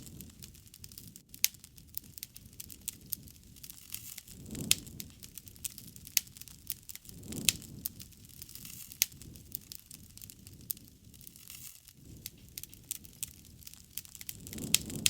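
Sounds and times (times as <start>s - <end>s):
flame rushing: 0.0s - 15.0s
wood fire crackling: 0.0s - 15.0s.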